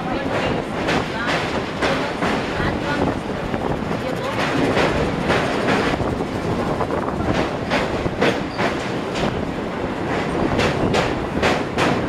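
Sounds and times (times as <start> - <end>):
train wheels on rails over bridge: 0.0 - 12.0.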